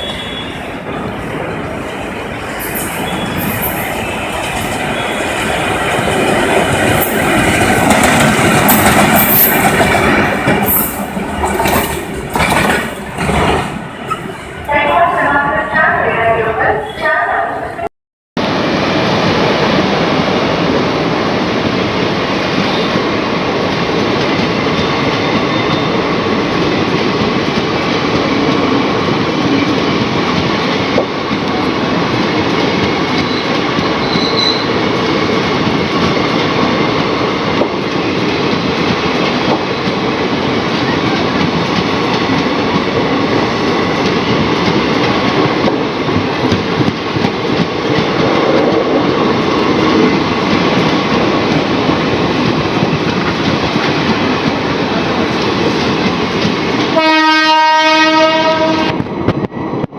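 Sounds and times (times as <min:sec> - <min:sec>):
train wheels on rails: 0:00.0 - 0:15.4, 0:18.4 - 0:59.9.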